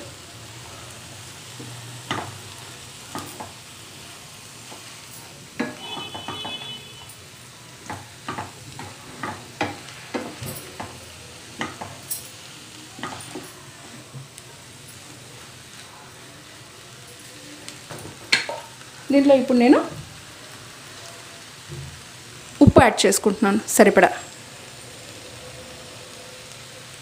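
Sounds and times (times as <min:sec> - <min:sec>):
faint sizzle: 0:00.0 - 0:27.0.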